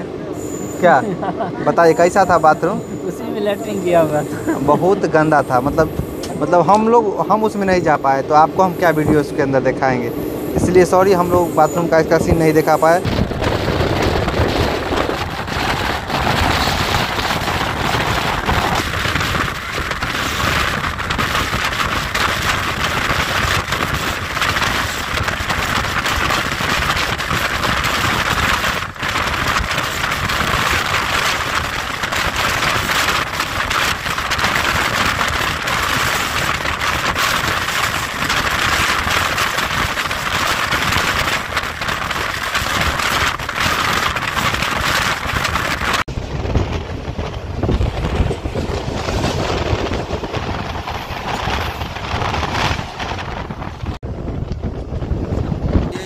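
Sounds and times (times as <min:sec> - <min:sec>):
rush of wind: 0:00.0 - 0:56.0
train wheels on rails: 0:00.0 - 0:56.0.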